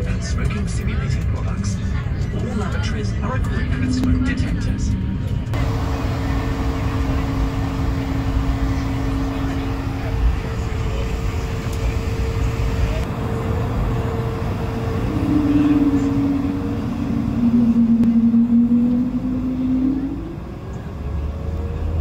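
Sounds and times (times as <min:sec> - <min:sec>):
jet engines idling low rumble: 0:00.0 - 0:22.0
humming tone: 0:03.4 - 0:21.1.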